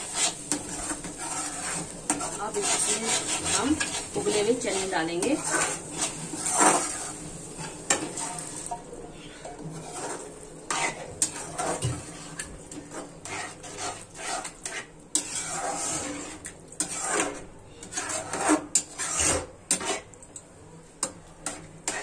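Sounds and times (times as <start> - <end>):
metal spoon scraping steel pan: 0.0 - 20.2, 21.0 - 22.0.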